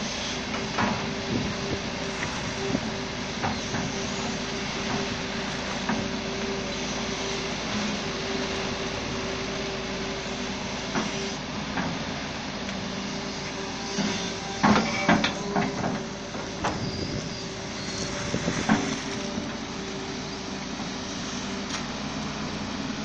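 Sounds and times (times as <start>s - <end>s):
excavator diesel engine under load: 0.0s - 23.0s.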